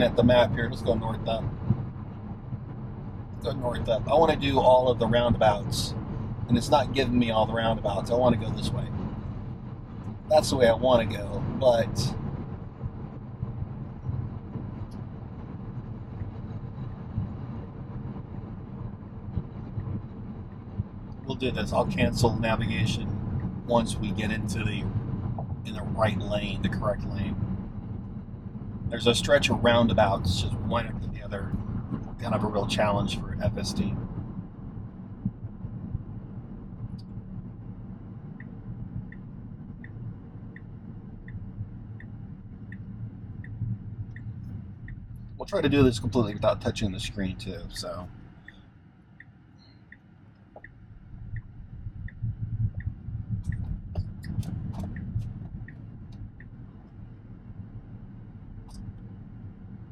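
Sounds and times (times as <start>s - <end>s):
road and tyre rumble: 0.0s - 59.9s
turn signal ticking: 0.0s - 59.9s.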